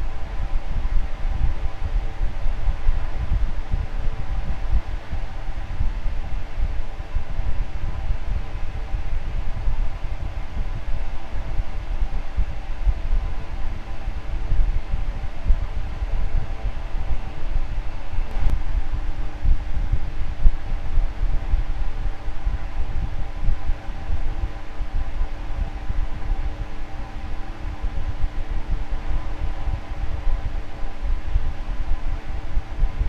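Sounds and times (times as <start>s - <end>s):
electric fan running: 0.0s - 33.0s.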